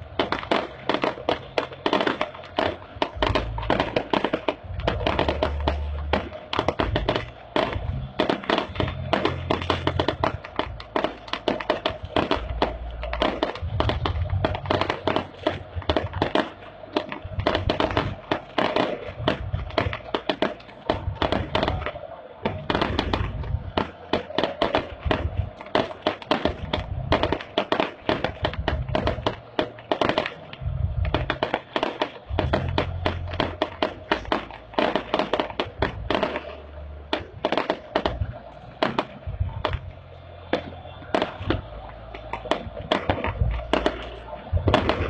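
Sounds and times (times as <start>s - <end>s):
fireworks cracking and banging: 0.0s - 45.0s
stadium crowd din: 0.0s - 45.0s.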